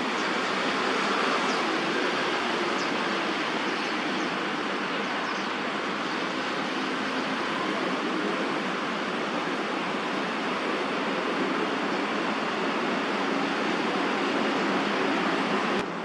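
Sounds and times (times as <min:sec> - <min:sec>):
distant city traffic: 0:00.0 - 0:16.0.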